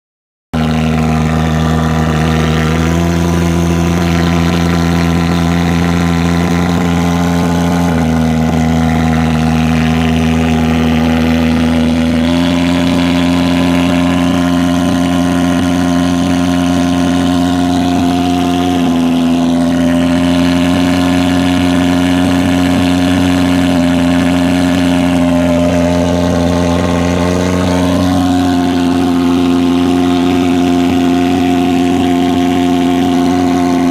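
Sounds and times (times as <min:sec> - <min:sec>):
fogging machine pulse-jet buzzing: 0:00.6 - 0:33.9.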